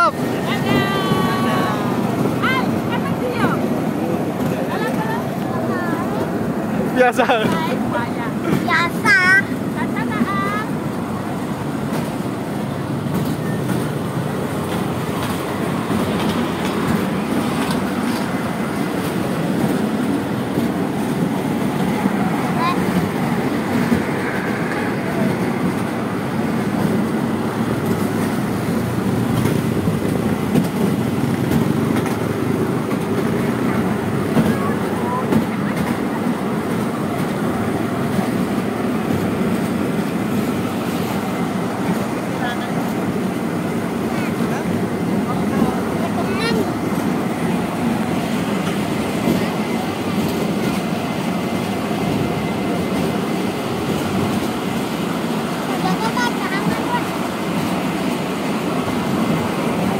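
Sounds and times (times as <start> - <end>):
ride train running on track: 0.0 - 59.9.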